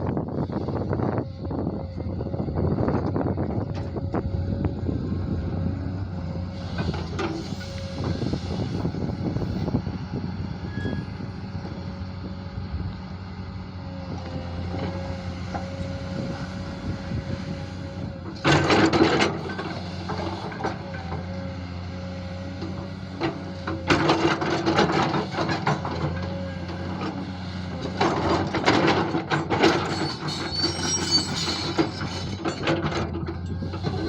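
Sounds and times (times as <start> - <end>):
digger engine whining: 0.0 - 34.0.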